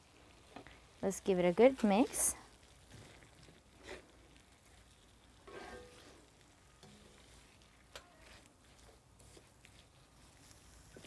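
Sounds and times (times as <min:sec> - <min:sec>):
light sizzling: 0:00.0 - 0:11.0
wooden spatula scraping wok: 0:00.4 - 0:11.0.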